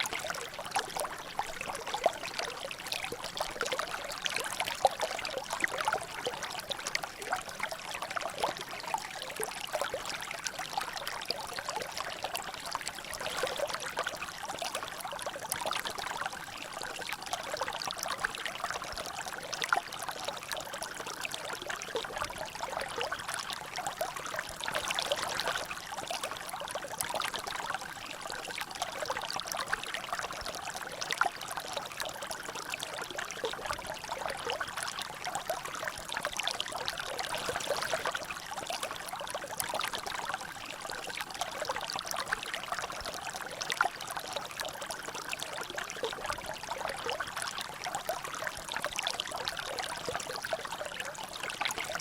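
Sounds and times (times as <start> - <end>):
water trickling and dripping: 0.0 - 52.0.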